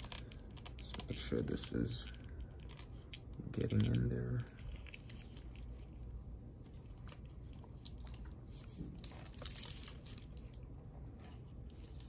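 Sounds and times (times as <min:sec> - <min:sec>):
tape crackling and crinkling: 0:00.0 - 0:12.0.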